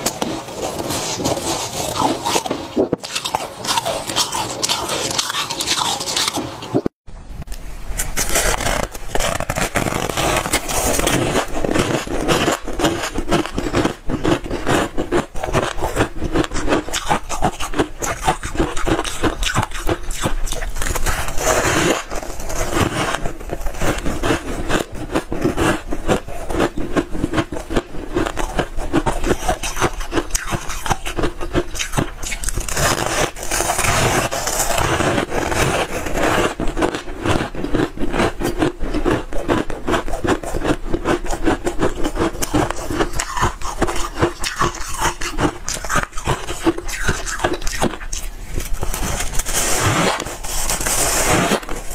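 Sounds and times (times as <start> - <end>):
crunching frost being eaten: 0.0 - 6.9, 8.0 - 51.9.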